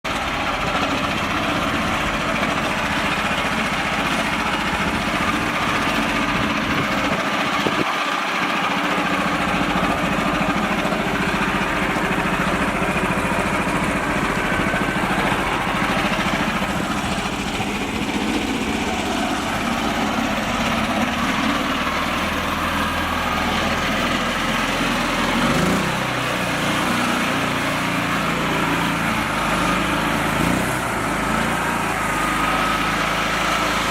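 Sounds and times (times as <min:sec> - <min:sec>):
small motor running: 0:00.6 - 0:33.9.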